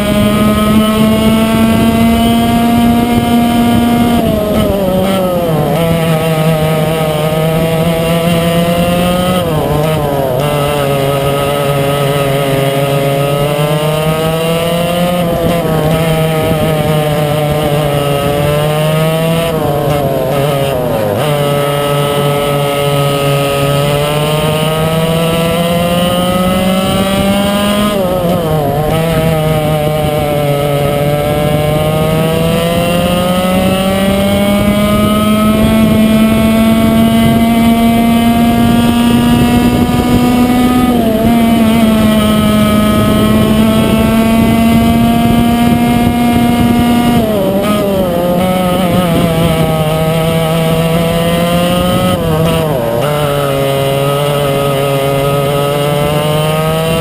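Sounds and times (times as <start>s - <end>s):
kart engine racing: 0.0s - 57.0s.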